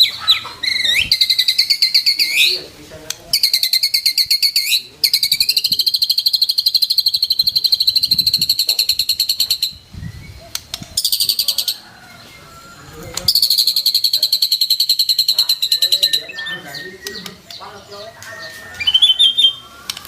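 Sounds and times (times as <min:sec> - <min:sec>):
bird singing fast trill: 0:00.0 - 0:02.6, 0:03.3 - 0:11.8, 0:13.3 - 0:20.0.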